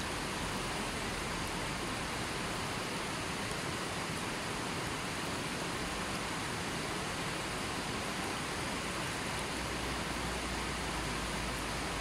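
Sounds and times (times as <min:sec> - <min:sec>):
river flowing over boulders: 0:00.0 - 0:12.0.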